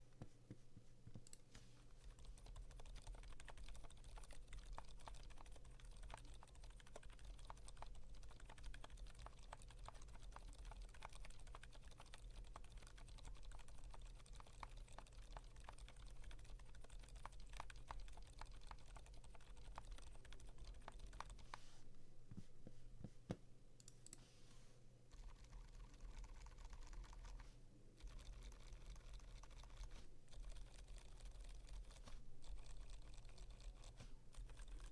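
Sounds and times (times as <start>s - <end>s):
muted mechanical keyboard typing: 2.0s - 21.6s, 25.1s - 34.9s.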